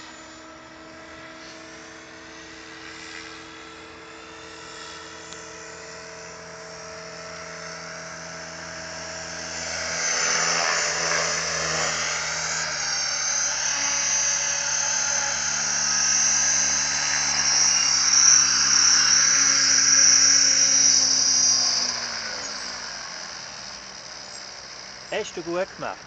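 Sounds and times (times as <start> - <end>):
rc helicopter rotor whining: 0.0 - 26.0.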